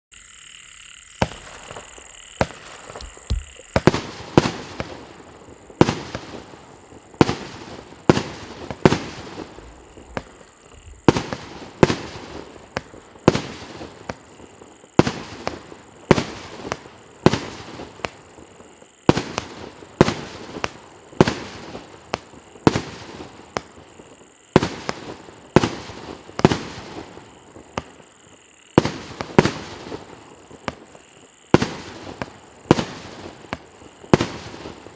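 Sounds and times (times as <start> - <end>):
fireworks cake firing shots: 1.2 - 5.2, 5.8 - 18.3, 19.1 - 23.8, 24.6 - 28.0, 28.8 - 34.9.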